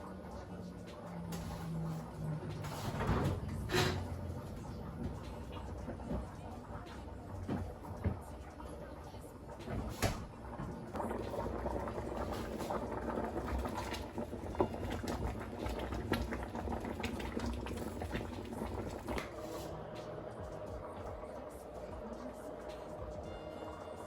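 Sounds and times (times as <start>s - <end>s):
food bubbling in a pot: 3.5s - 23.8s.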